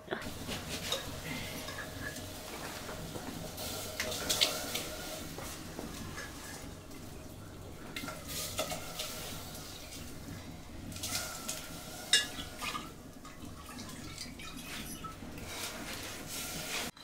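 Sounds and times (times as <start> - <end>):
steel pots clinking and knocking: 0.0 - 17.0
hands working food in water: 0.2 - 17.0.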